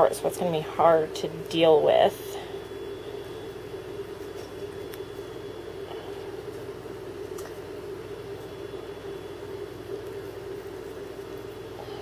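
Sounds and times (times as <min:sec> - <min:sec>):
mechanical room hum: 0:00.0 - 0:12.0.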